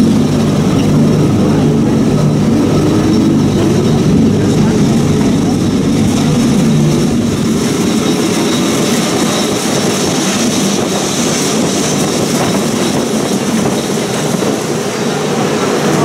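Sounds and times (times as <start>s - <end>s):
tram wheels on rails: 0.0s - 16.0s.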